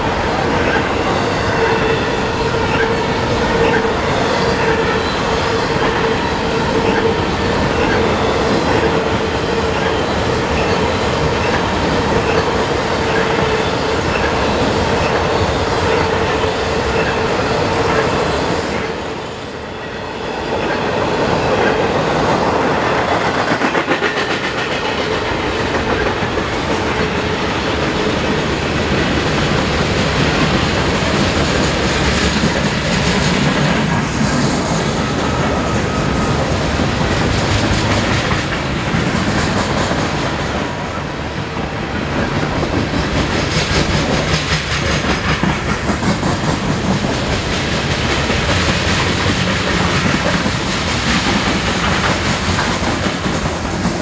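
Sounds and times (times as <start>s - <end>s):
freight train wheels clicking: 0.0s - 19.6s, 20.3s - 54.0s.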